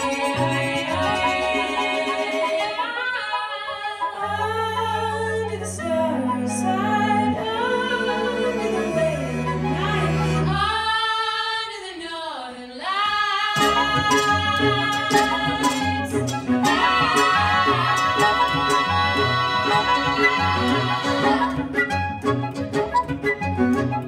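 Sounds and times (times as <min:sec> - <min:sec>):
women singing in harmony: 0:00.0 - 0:22.0.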